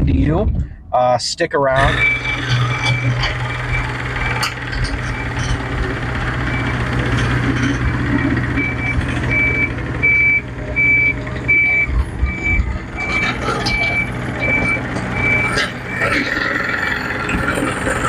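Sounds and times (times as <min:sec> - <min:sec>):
machine engine hum: 0:01.7 - 0:18.0
reversing back-up alarm beeping: 0:01.8 - 0:18.0.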